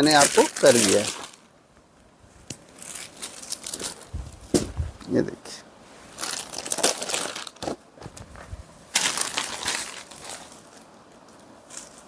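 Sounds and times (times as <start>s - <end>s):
cloth rustling and crinkling: 0.0s - 5.2s, 5.8s - 12.0s.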